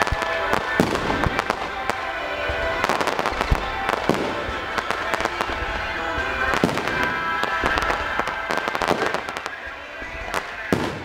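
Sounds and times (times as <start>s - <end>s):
fireworks bursting and crackling: 0.0s - 11.0s
music playing: 0.0s - 11.0s.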